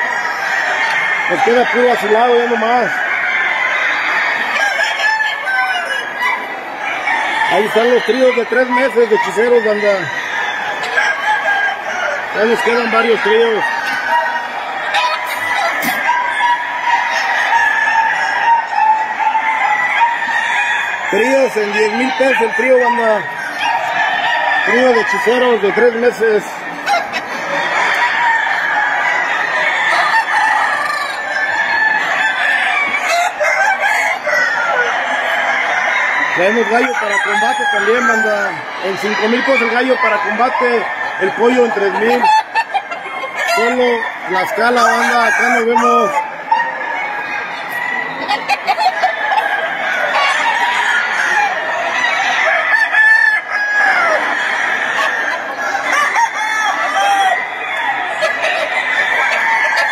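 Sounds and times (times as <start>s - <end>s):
chickens clucking: 0.0s - 59.9s
roosters crowing: 0.0s - 59.9s.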